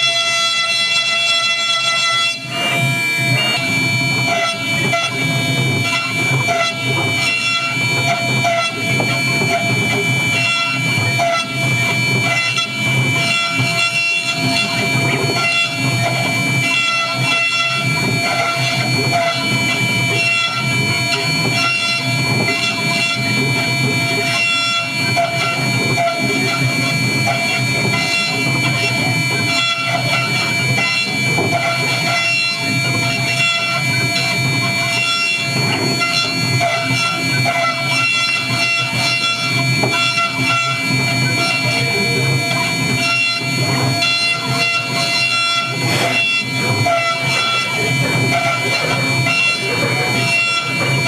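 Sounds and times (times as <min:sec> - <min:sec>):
cutter cutting noise: 0:00.0 - 0:51.0
milling spindle whine: 0:00.0 - 0:51.0.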